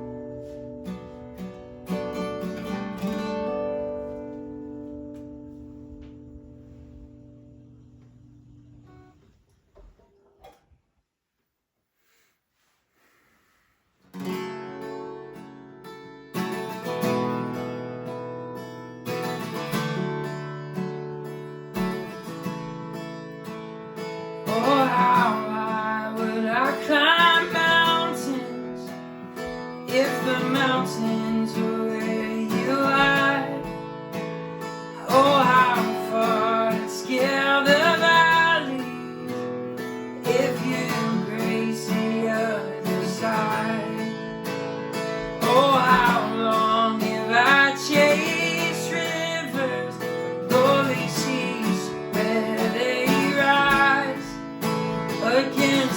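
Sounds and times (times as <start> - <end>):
acoustic guitar strumming: 0.0 - 9.2, 14.1 - 55.9.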